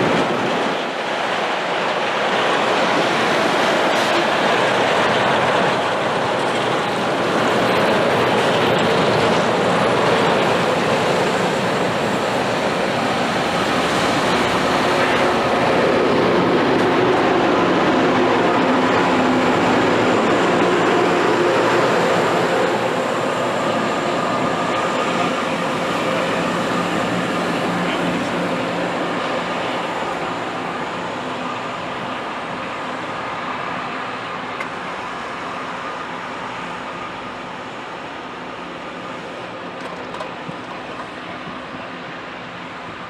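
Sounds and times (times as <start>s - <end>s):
train rushing on rails: 0.0s - 43.0s.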